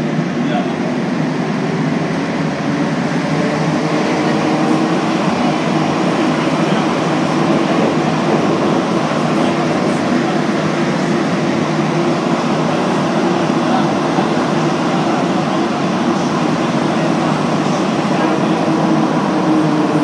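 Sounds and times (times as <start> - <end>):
train rumbling in motion: 0.0 - 20.0.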